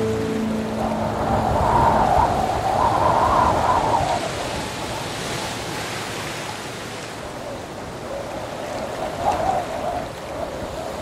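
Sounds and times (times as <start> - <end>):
sea waves breaking: 0.0 - 11.0.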